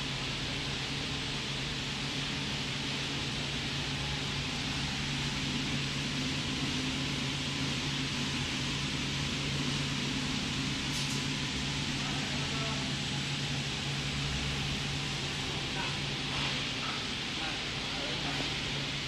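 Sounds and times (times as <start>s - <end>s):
fan-like hiss: 0.0s - 19.0s
low machine hum: 0.0s - 19.0s.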